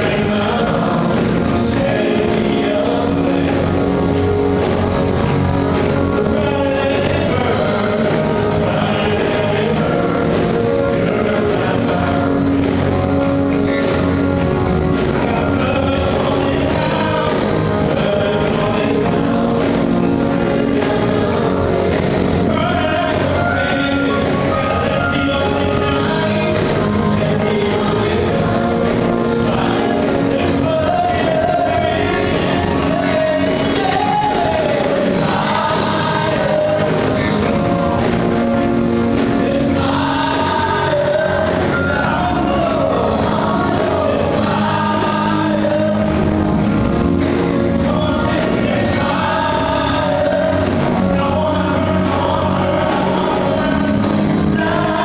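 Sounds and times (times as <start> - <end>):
group singing gospel song: 0.0 - 55.0
instrumental accompaniment: 0.0 - 55.0.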